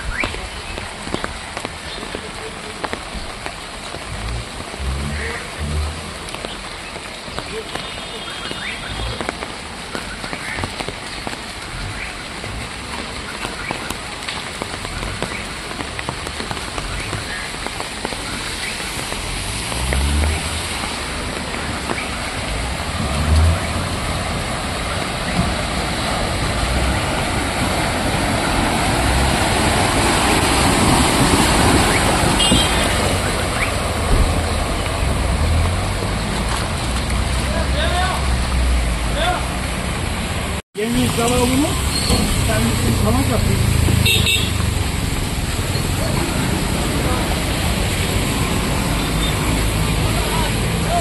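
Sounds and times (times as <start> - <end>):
cars splashing through water: 0.0 - 51.0
rain: 0.0 - 51.0.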